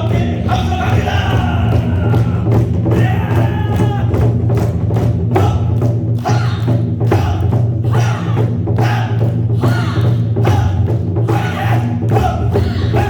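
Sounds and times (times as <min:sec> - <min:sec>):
drums beaten in strong rhythm: 0:00.0 - 0:13.0.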